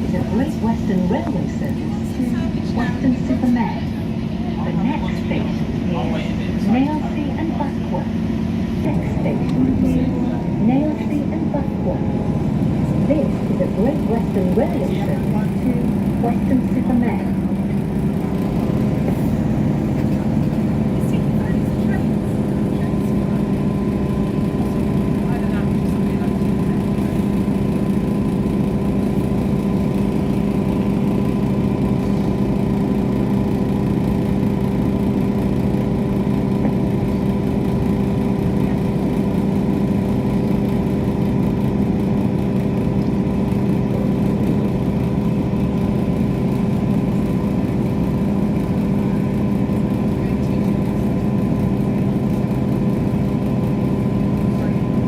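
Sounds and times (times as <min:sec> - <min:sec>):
diesel train engine drone: 0:00.0 - 0:55.0.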